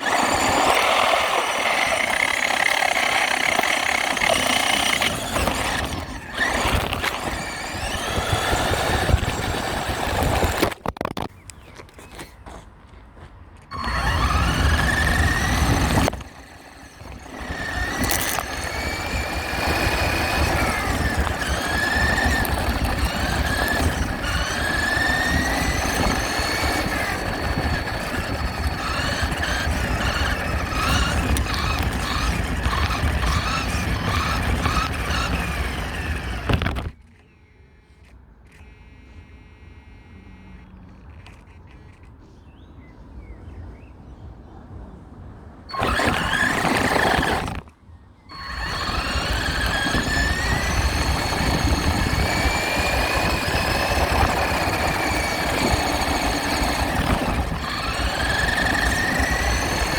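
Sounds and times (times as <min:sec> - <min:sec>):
rough rumbling noise: 0:00.0 - 0:11.4, 0:13.7 - 0:37.0, 0:45.7 - 0:47.7, 0:48.3 - 0:59.9
rc truck motor whining: 0:00.0 - 0:12.2, 0:13.7 - 0:42.2, 0:45.7 - 0:47.7, 0:48.3 - 0:59.9.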